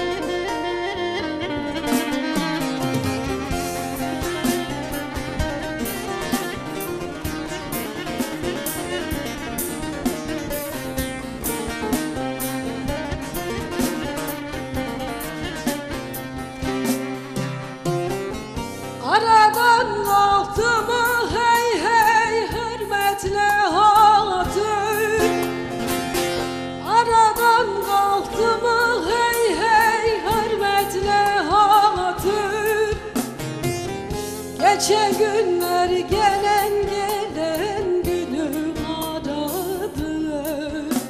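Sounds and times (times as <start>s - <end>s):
woman singing into a microphone: 0.0s - 15.9s, 18.8s - 25.8s, 26.6s - 33.5s, 34.1s - 41.0s
instrumental accompaniment: 0.0s - 41.0s.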